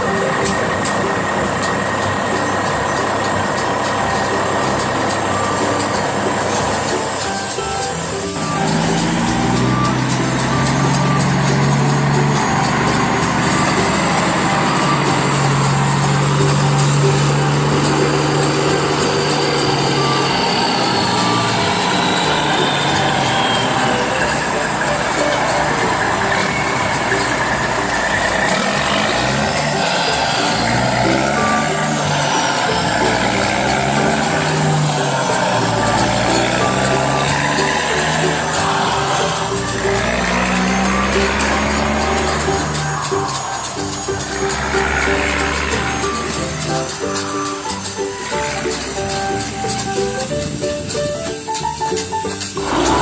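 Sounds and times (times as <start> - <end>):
heavy vehicle engine running: 0.0 - 53.0
work site noise: 0.0 - 53.0.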